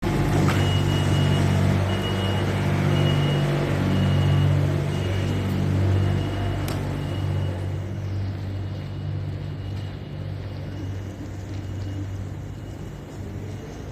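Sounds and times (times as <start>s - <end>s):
large vehicle engine running: 0.0s - 13.9s.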